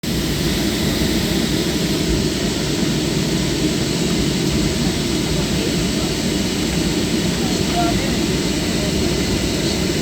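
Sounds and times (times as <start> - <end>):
jet engine cabin rumble: 0.0 - 10.0.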